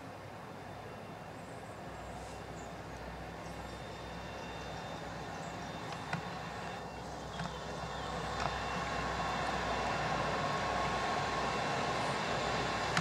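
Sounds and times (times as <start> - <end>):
diesel locomotive engine hum: 0.0 - 13.0.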